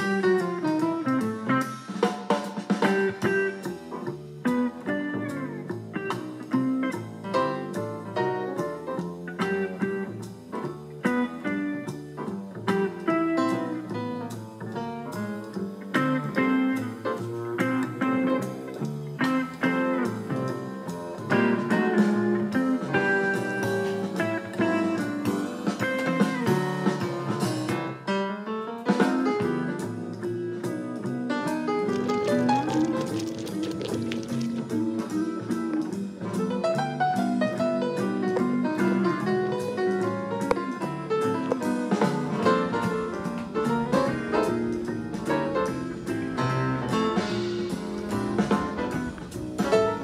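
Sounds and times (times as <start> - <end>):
plucked guitar music: 3.0 - 27.2, 30.4 - 50.0.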